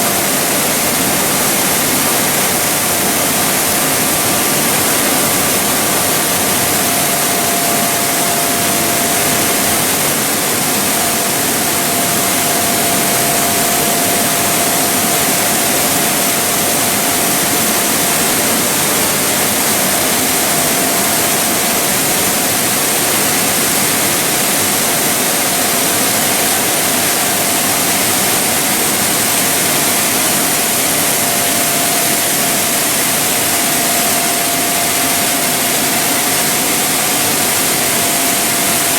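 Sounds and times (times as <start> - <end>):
faint steady machine whine: 0.0 - 38.9
machinery rushing noise: 0.0 - 38.9.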